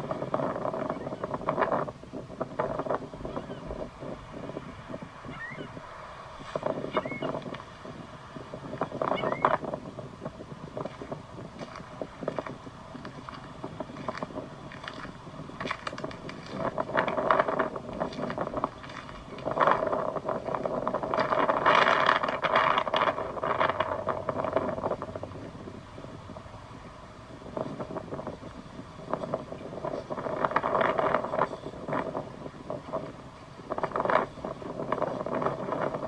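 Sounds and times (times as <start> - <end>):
wind gusting over microphone: 0.0 - 36.0.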